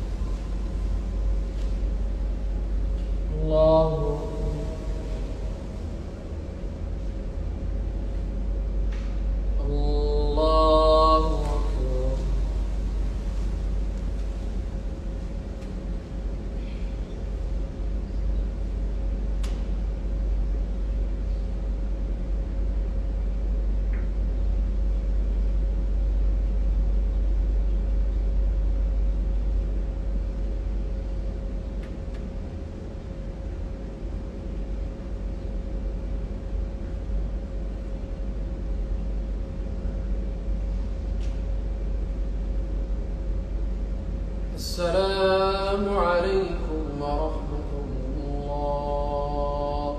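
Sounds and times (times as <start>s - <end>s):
faint hum: 0.0s - 49.9s
low background rumble: 0.0s - 49.9s.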